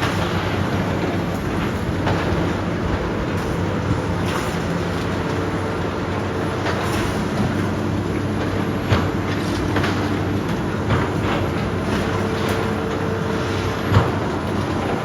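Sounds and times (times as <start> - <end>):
heavy demolition machinery running: 0.0 - 15.0.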